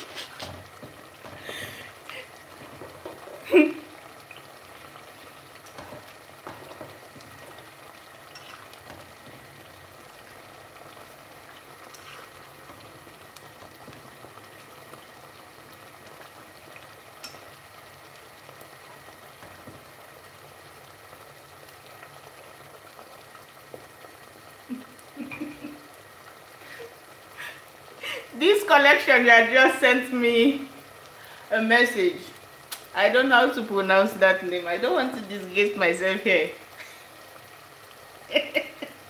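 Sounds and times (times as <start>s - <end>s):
sauce bubbling in a pot: 0.0s - 39.0s.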